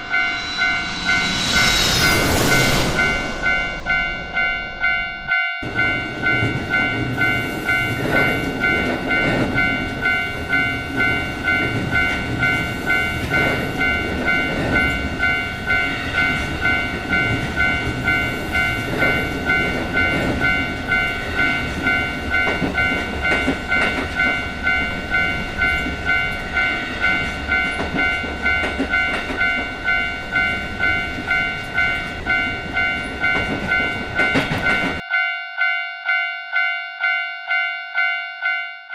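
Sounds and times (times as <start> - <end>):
passing train rumble and clatter: 0.0 - 35.0
level-crossing warning bell ringing: 0.0 - 38.9.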